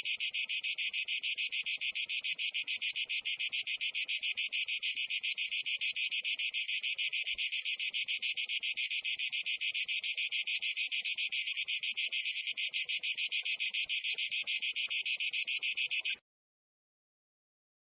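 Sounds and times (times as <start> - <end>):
cicadas buzzing: 0.0 - 16.2.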